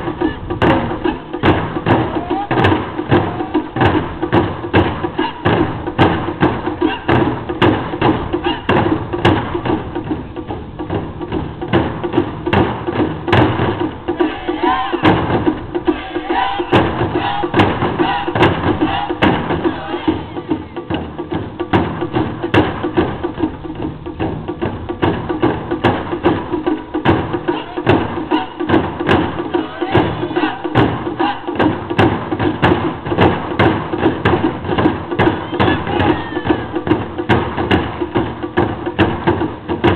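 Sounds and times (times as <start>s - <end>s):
drummers shouting calls: 0.0s - 39.9s
taiko drumming: 0.0s - 39.9s.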